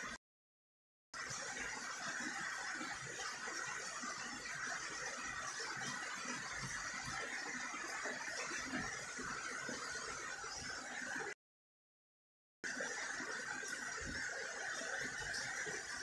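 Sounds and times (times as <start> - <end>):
steady rain falling: 1.2 - 11.3, 12.6 - 16.0.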